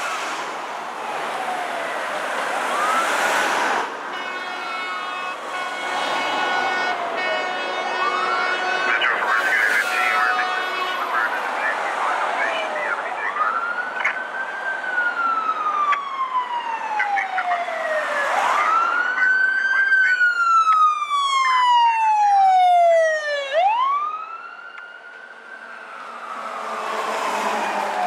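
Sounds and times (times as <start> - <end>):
emergency vehicle sirens wailing: 0.0 - 28.0
traffic noise: 0.0 - 28.0.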